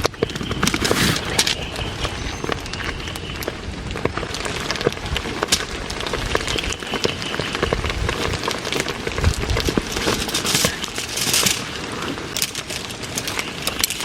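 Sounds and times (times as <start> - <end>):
heavy rain falling: 0.0 - 14.0
raindrops tapping a surface: 0.0 - 14.0.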